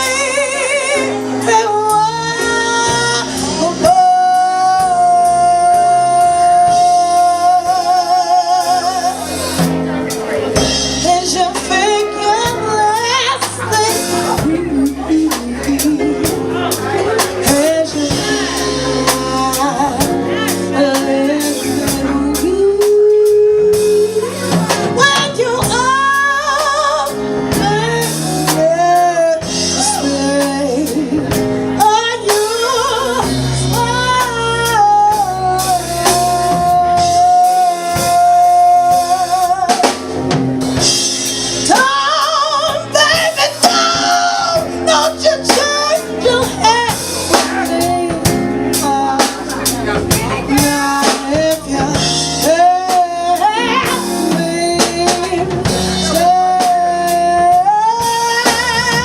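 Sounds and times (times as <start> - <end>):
woman singing a slow ballad: 0.0 - 9.5, 10.7 - 59.0
live band with drum kit: 0.0 - 59.0.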